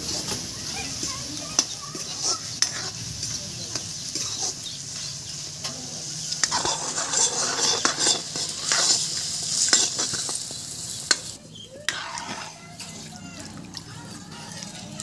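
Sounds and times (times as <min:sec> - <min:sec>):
steel ladle scraping a pan: 0:00.0 - 0:13.6
meat sizzling in a pan: 0:00.0 - 0:15.0.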